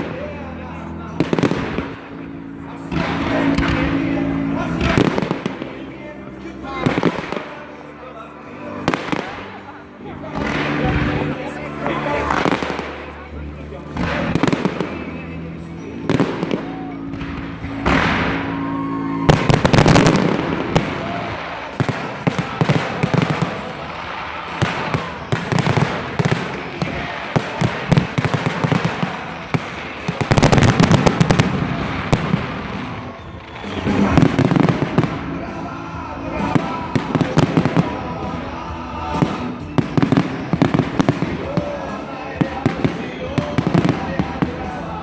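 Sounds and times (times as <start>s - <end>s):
fireworks bursting and crackling: 0.0s - 45.0s
show music: 0.0s - 45.0s.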